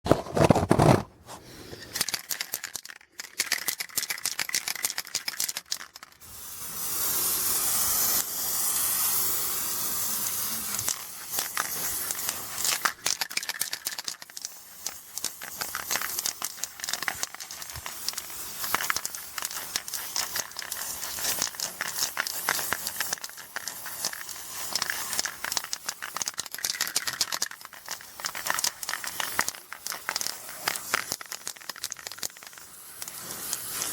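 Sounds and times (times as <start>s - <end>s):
spray paint hissing: 1.8s - 33.9s
spray can rattling when shaken: 1.9s - 33.9s.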